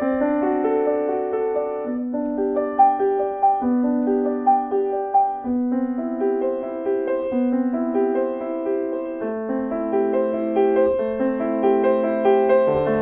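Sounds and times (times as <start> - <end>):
slow solo piano music: 0.0 - 13.0.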